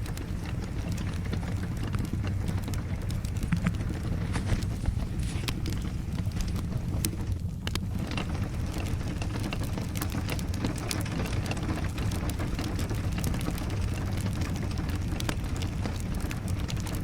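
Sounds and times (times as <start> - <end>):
fire crackling: 0.0 - 17.0
rain rumble: 0.0 - 17.0.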